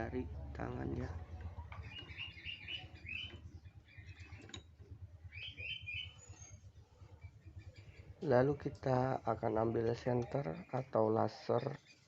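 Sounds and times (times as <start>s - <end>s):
low steady hum: 0.0s - 11.8s
bird chirping: 0.0s - 12.0s.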